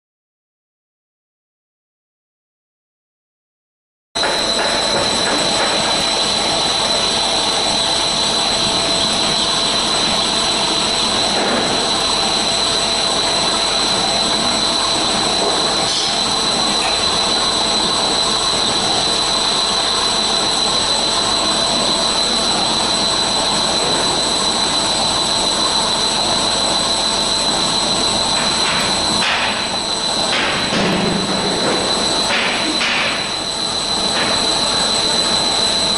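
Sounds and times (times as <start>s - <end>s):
high steady whine: 4.2s - 35.9s.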